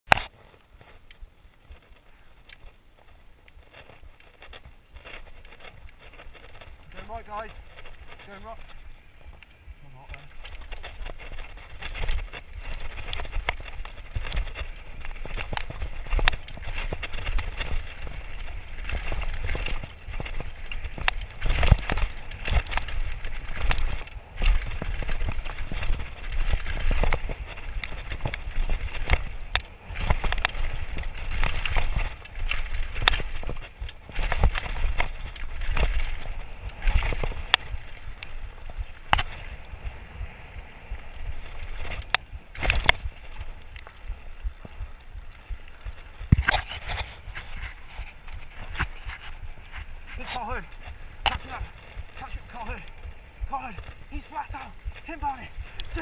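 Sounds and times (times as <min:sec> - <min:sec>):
bike knocking and rattling: 0:00.1 - 0:56.0
tyres on dirt: 0:00.1 - 0:56.0
wind rumble on microphone: 0:00.8 - 0:56.0.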